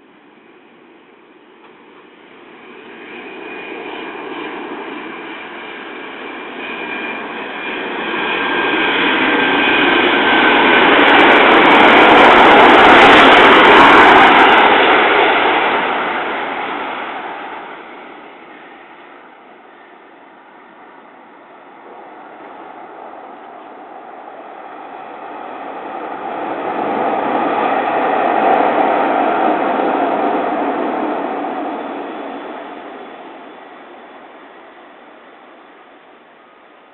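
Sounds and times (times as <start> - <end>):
high turbine whine: 0.0 - 36.9
jet airliner passing: 0.0 - 36.9.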